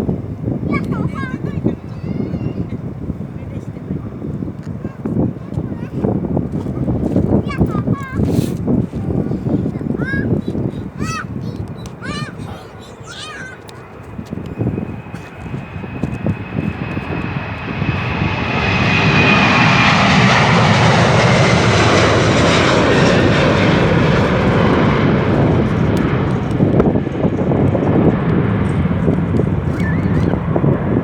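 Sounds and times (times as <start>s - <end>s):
jet airliner passing: 0.0s - 31.0s
wind buffeting microphone: 0.0s - 31.0s.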